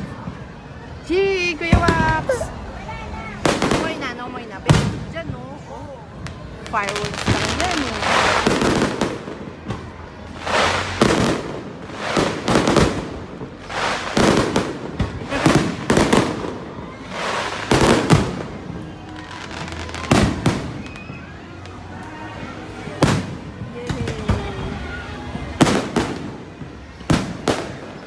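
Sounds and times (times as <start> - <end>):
fireworks bangs with crackling fizz: 3.4 - 22.1, 22.8 - 28.0.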